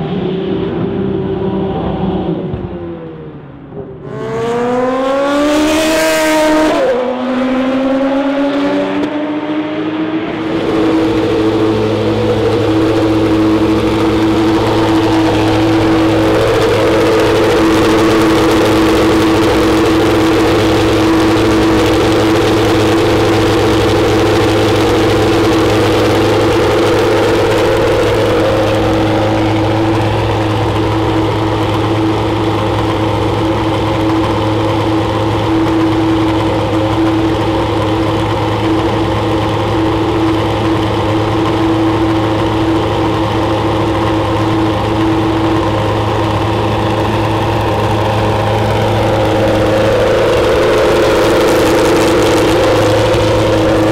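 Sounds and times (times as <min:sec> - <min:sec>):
car engine idling: 0:10.0 - 0:53.9.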